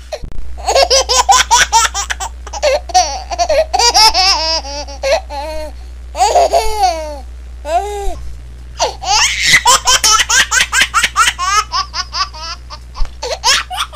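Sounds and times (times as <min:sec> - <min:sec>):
faint low hum: 0:00.0 - 0:13.9
baby laughing: 0:00.6 - 0:05.6, 0:06.2 - 0:07.9, 0:08.8 - 0:13.9.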